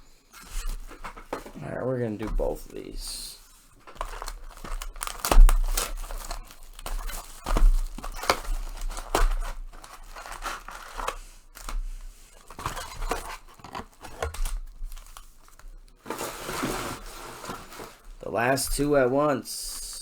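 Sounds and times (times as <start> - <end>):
foil wrappers ripping and crinkling: 0.4 - 18.4.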